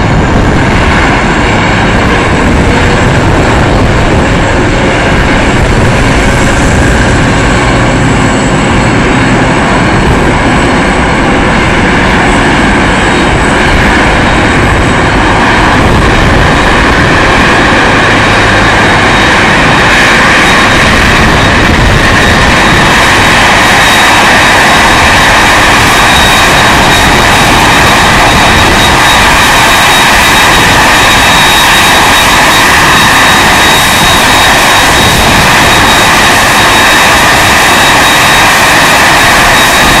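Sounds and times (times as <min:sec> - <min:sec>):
high jet whine: 0:00.0 - 0:40.0
jet engines roaring: 0:00.0 - 0:40.0.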